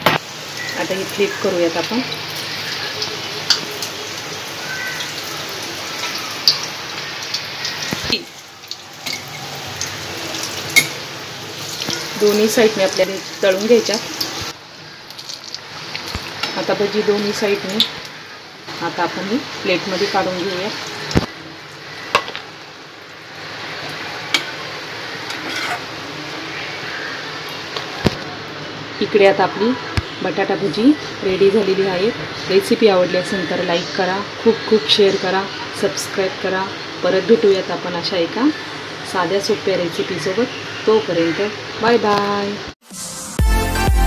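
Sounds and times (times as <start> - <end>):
hot oil sizzling: 0.0 - 43.0.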